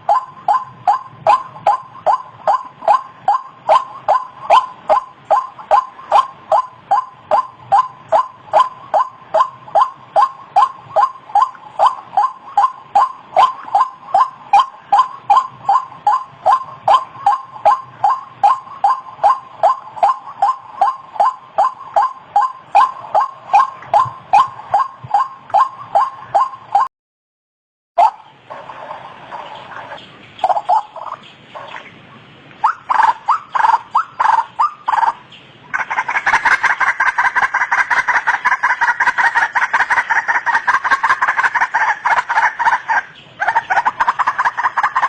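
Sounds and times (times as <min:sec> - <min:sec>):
waterhen calling: 0:00.0 - 0:26.9, 0:28.0 - 0:45.0.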